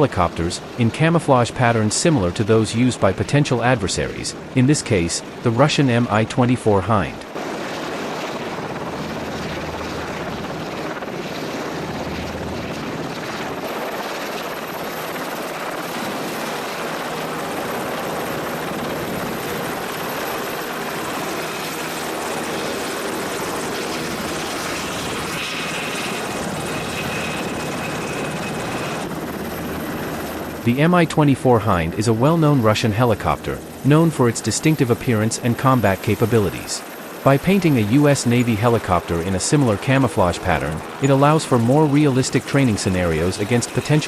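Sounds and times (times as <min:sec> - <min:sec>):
helicopter flying: 0:00.0 - 0:44.0.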